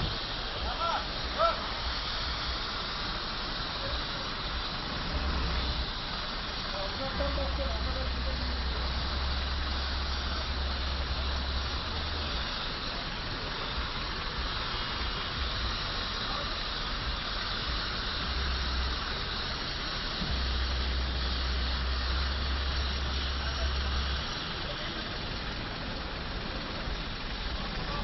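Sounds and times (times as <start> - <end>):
vehicle fire hissing: 0.0 - 28.0.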